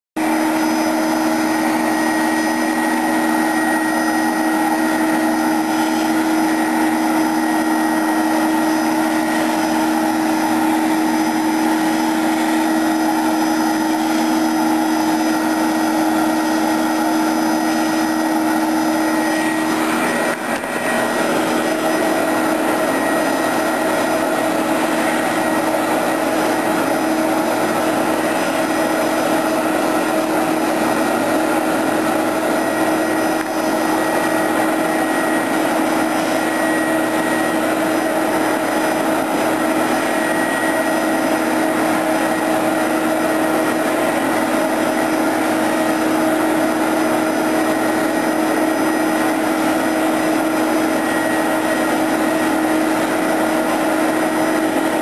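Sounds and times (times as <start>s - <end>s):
vacuum cleaner running: 0.2s - 55.0s.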